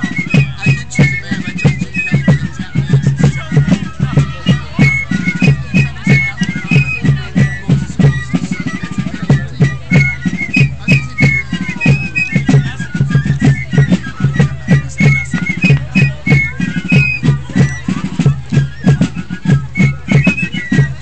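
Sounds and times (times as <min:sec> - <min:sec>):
high piping melody: 0:00.0 - 0:21.0
steady drum beat: 0:00.0 - 0:21.0.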